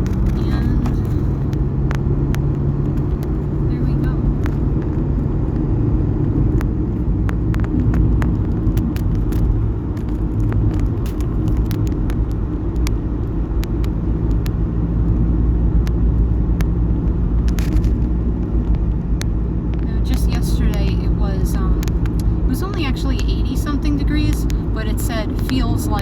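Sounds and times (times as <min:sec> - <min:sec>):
road and engine rumble: 0:00.0 - 0:26.0
small clicks and ticks: 0:00.0 - 0:26.0.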